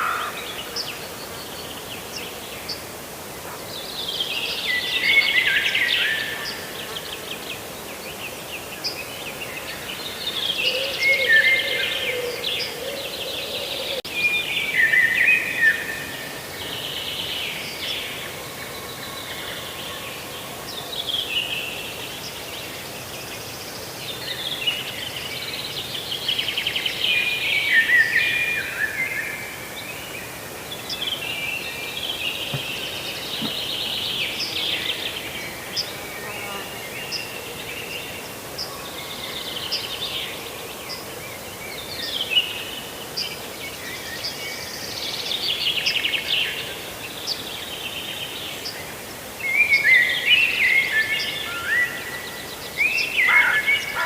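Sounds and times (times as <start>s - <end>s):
outdoor background hiss: 0.0s - 54.0s
songbird singing: 0.0s - 54.0s.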